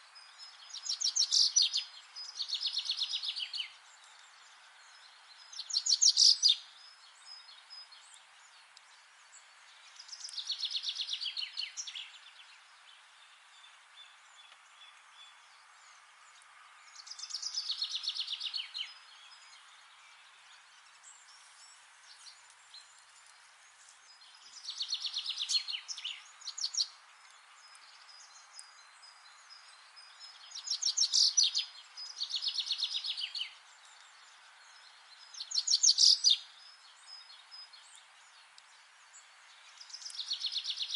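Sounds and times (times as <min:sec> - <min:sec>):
faint steady hiss: 0:00.0 - 0:40.9
songbird singing: 0:00.0 - 0:40.9.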